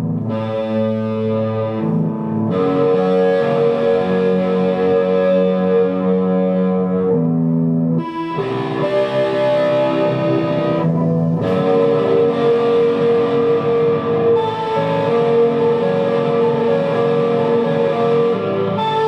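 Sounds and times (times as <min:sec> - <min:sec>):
distorted guitar chords: 0:00.0 - 0:19.0.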